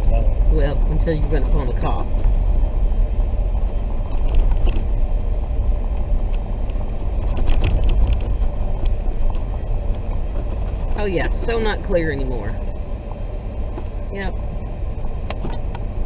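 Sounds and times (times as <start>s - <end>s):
car driving on snow: 0.0s - 16.0s.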